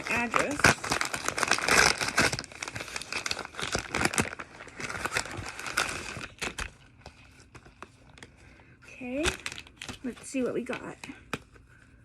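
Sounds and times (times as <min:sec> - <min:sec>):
package crinkling and rustling: 0:00.0 - 0:11.2.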